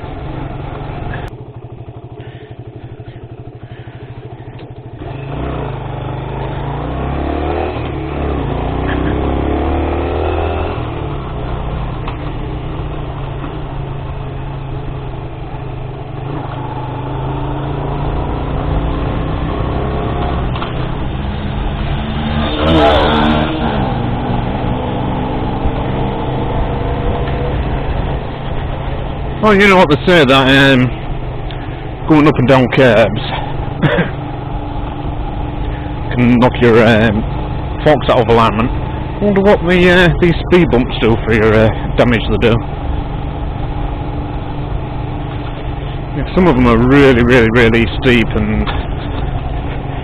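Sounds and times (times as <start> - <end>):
motorcycle engine accelerating: 0.0 - 50.0.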